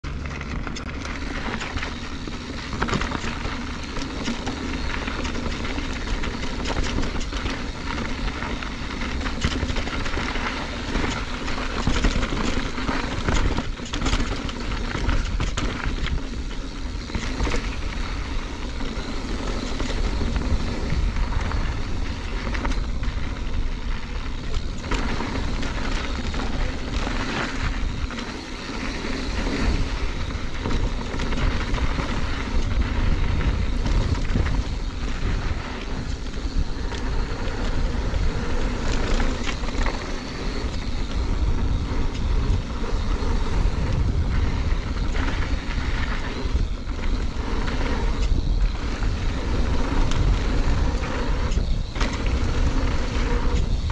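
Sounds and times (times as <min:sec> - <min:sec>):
bike rattling and knocking: 0:00.0 - 0:53.9
tyres rumbling on dirt: 0:00.0 - 0:53.9
wind rushing over microphone: 0:00.0 - 0:53.9.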